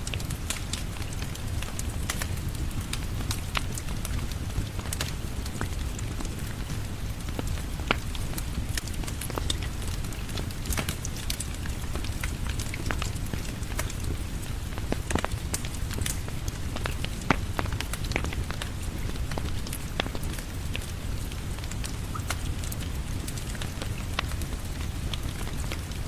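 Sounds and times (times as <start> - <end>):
steady rain falling: 0.0 - 26.0
wood fire crackling and popping: 0.0 - 26.0.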